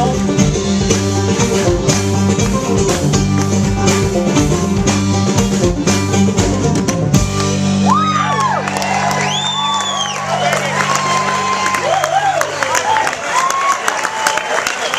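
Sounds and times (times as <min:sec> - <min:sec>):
bluegrass band playing: 0:00.0 - 0:13.4.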